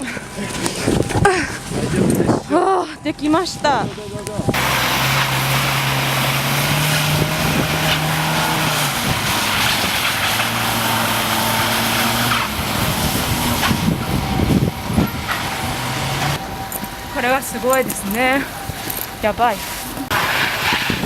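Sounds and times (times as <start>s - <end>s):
car engine humming: 0.0s - 21.0s.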